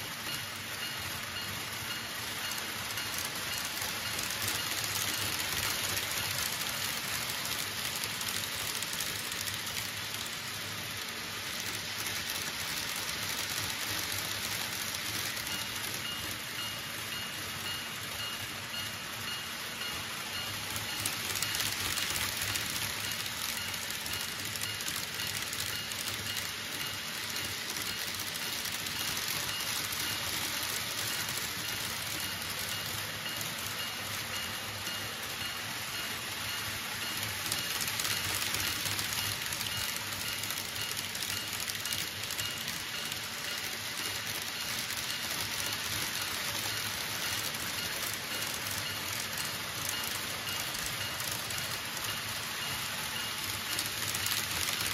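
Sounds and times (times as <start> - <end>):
model trains rattling on track: 0.0 - 54.9.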